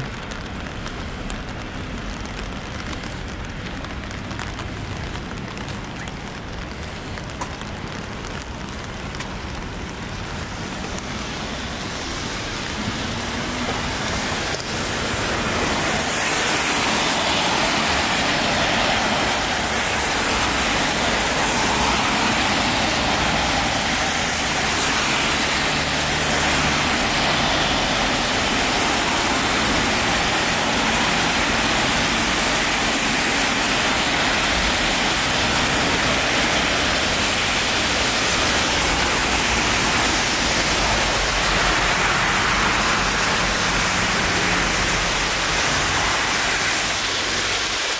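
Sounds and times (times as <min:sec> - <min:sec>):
tyres hissing on wet road: 0:00.0 - 0:47.9.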